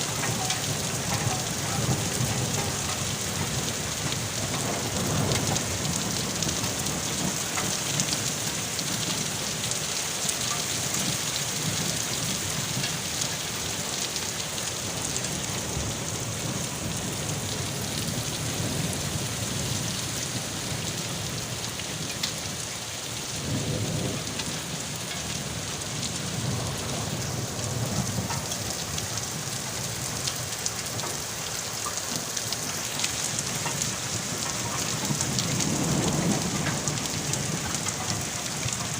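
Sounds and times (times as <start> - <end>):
raindrops ticking on a surface: 0.0 - 38.9
steady rain falling: 0.0 - 38.9.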